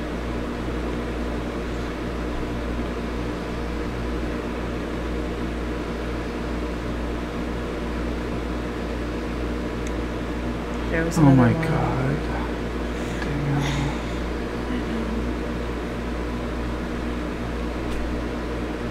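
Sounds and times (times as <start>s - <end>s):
mechanical hum with hiss: 0.0s - 18.9s.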